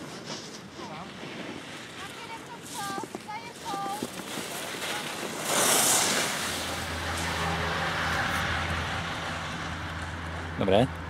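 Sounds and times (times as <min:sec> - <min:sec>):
skis carving across snow: 0:00.0 - 0:09.2.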